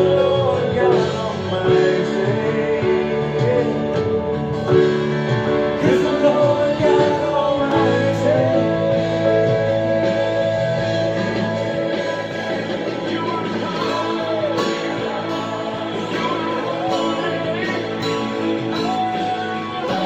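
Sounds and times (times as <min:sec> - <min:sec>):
person singing: 0:00.0 - 0:20.0
worship song with guitar: 0:00.0 - 0:20.0.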